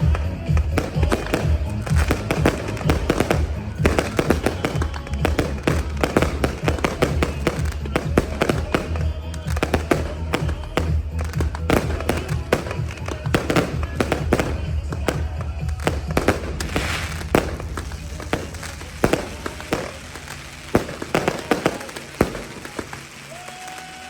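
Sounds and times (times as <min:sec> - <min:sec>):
music with heavy bass: 0:00.0 - 0:22.8
fireworks bangs and crackles: 0:00.0 - 0:24.0.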